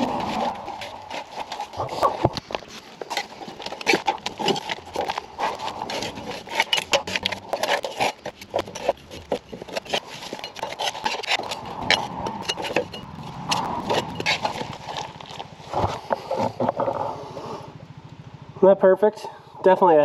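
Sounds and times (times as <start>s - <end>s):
hand scraper scraping wet grass: 0.0s - 16.9s.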